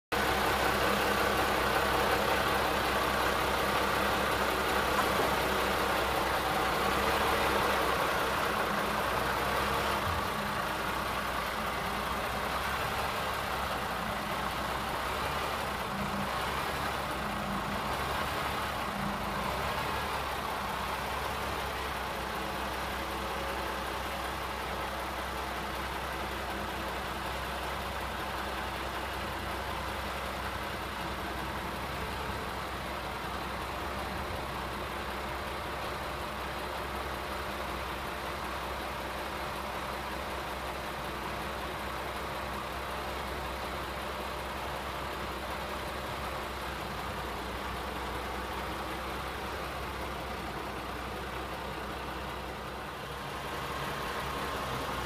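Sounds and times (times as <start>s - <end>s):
truck engine running: 0.1s - 55.0s.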